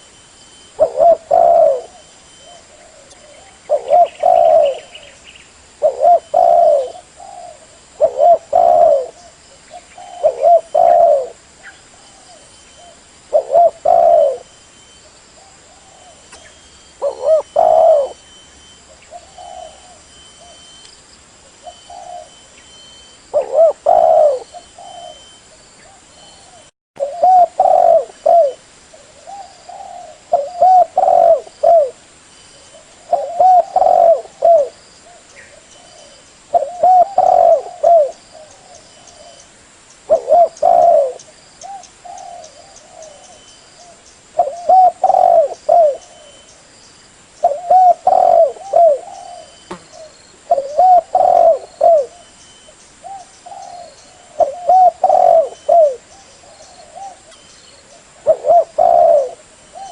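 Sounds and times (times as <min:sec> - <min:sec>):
dove cooing: 0:00.7 - 0:05.2, 0:05.8 - 0:14.5, 0:15.4 - 0:20.8, 0:21.5 - 0:32.0, 0:32.6 - 0:39.4, 0:40.1 - 0:46.5, 0:47.4 - 0:59.9.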